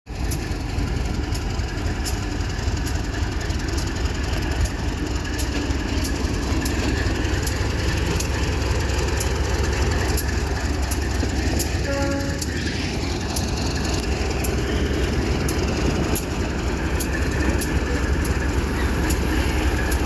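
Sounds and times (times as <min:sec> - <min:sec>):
locomotive low rumble: 0:00.1 - 0:20.0.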